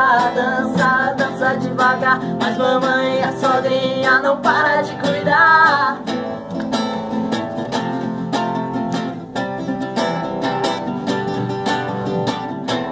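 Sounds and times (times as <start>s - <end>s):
strummed acoustic guitar: 0.0s - 12.9s.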